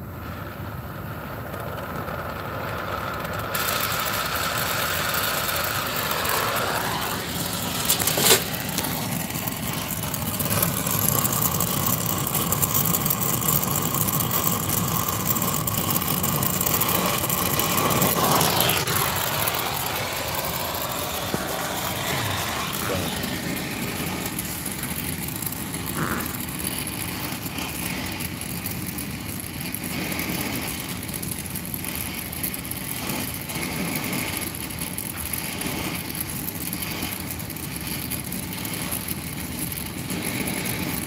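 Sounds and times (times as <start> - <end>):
torch flame hissing: 0.0 - 41.0.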